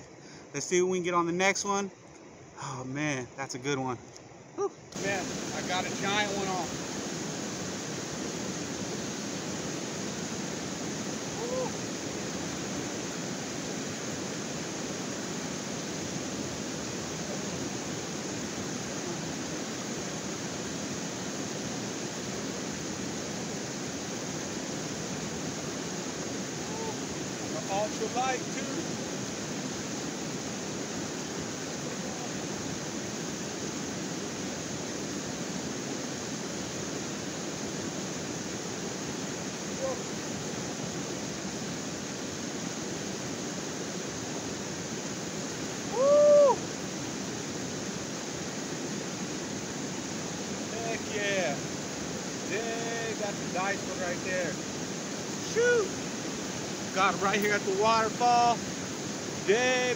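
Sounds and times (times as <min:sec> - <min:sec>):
river rapids rushing: 0:05.0 - 0:59.9.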